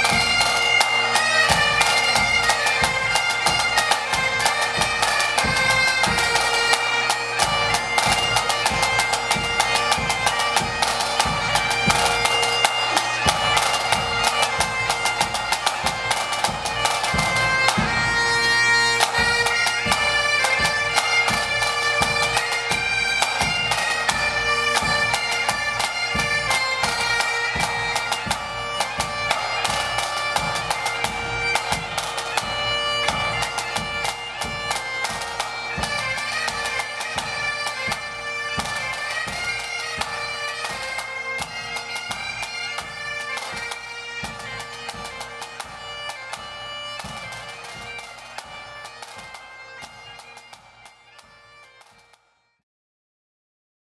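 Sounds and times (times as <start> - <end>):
snare and bass drum: 0.0 - 50.6
wind instruments playing: 0.0 - 52.1
bagpipe with drone: 0.0 - 52.6.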